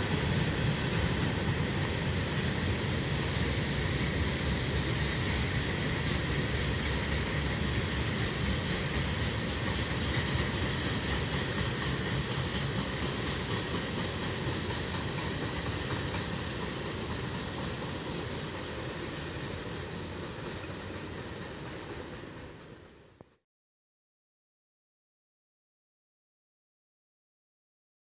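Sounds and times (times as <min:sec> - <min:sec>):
freight train wheels rumbling on track: 0:00.0 - 0:23.4.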